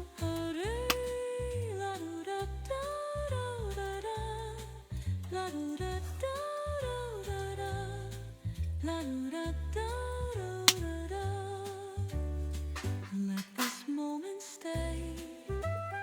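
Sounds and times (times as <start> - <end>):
slow jazz song: 0.0 - 16.0.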